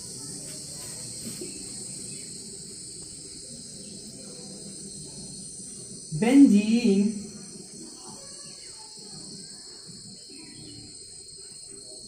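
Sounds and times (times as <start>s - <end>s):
high-pitched background hiss: 0.0s - 12.0s.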